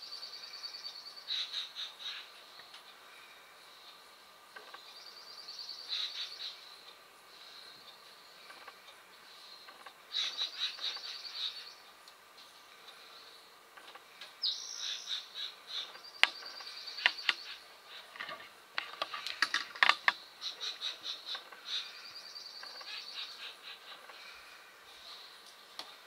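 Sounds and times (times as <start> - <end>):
bird song: 0.0 - 26.0.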